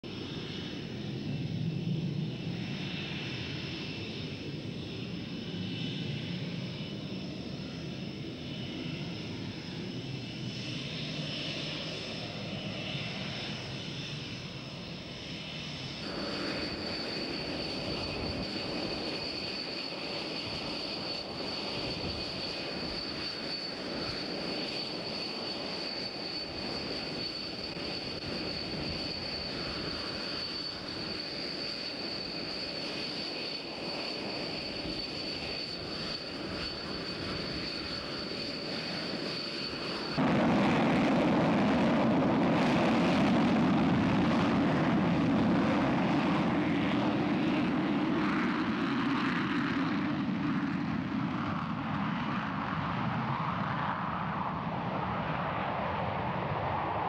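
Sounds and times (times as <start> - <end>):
jet engines whining: 0.1 - 57.0.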